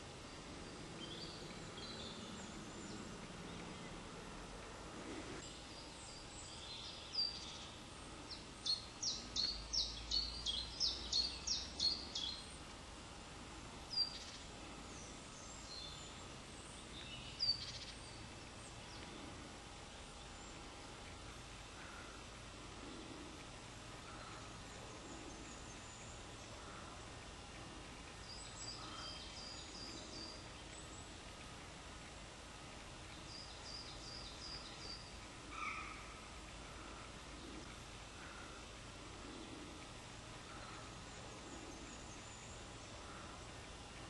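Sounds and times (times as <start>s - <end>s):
faint background hiss: 0.0s - 44.0s
songbird singing: 0.0s - 44.0s.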